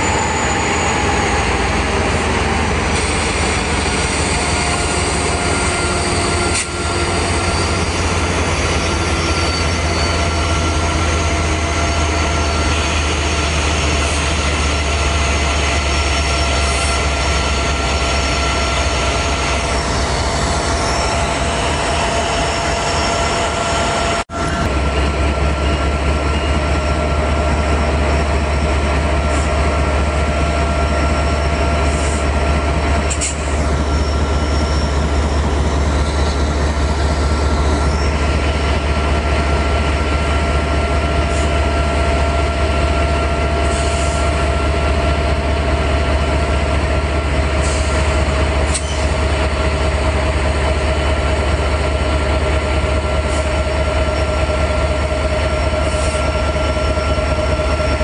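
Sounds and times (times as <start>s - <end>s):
locomotive drone: 0.0s - 58.0s.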